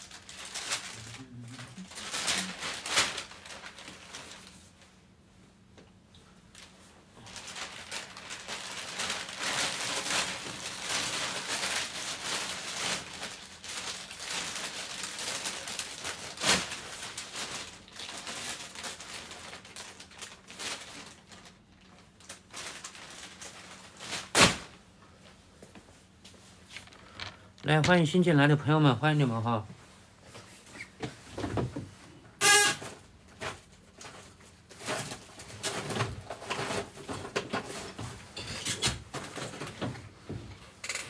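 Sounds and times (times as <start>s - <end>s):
rustling and handling noise: 0.0s - 41.0s.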